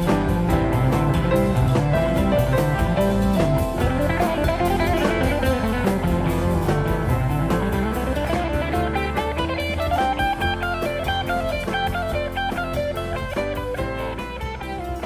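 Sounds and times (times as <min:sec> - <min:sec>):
instrumental gospel band music: 0:00.0 - 0:15.0.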